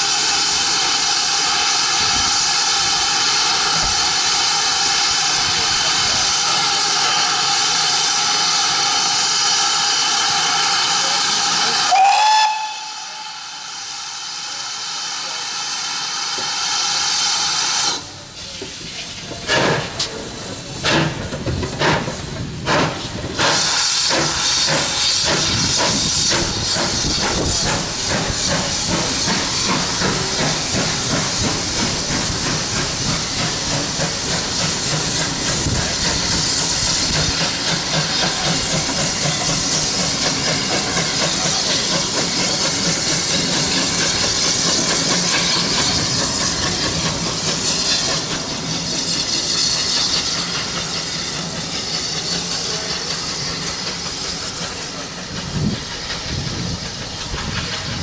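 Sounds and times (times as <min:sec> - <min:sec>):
steam hiss: 0:00.0 - 0:58.0
steam locomotive exhaust beats: 0:00.0 - 0:58.0.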